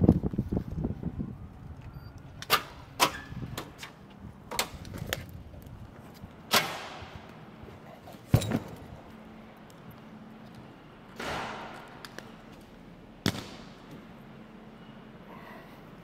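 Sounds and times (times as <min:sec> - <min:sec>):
faint steady hum: 0:00.3 - 0:16.0.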